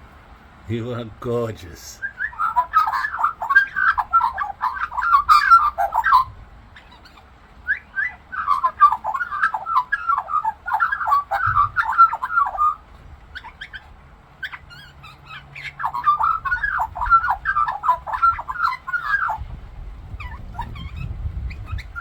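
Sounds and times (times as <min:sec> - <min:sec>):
magpie warbling song: 0:02.0 - 0:19.5, 0:20.1 - 0:22.0.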